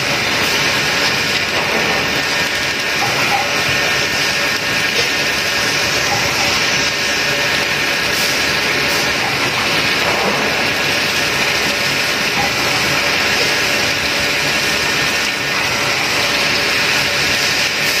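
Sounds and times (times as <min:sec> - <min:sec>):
coolant spray hissing: 0:00.0 - 0:18.0.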